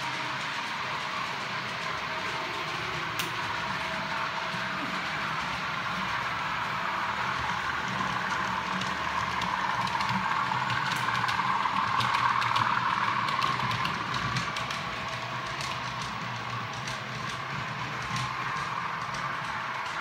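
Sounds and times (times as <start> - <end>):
model train motor hum: 0.0 - 20.0
wheels clicking over rail joints: 0.0 - 20.0.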